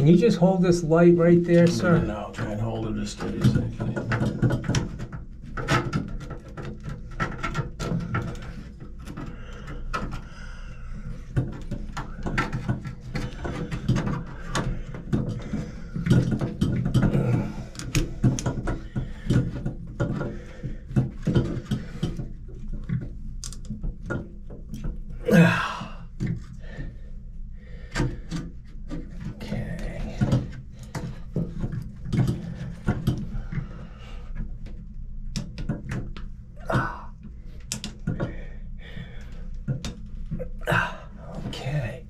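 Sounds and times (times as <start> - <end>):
knocks and clicks of handling: 0.1 - 25.2, 25.8 - 40.6.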